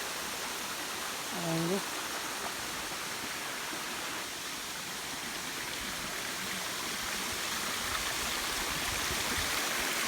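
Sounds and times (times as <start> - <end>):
waterfall and stream rushing: 0.0 - 10.0.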